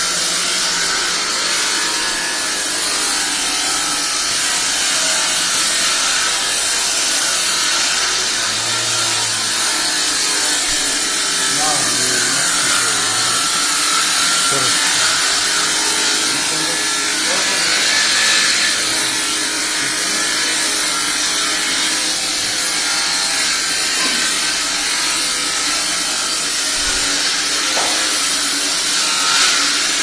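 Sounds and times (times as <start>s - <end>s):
power tool cutting wood: 0.0s - 30.0s.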